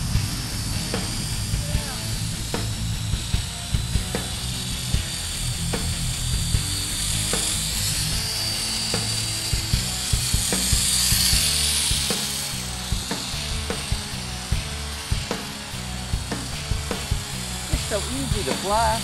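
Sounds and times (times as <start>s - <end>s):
background music with steady beat: 0.0s - 19.0s
high-pitched electric motor buzz: 0.0s - 19.0s.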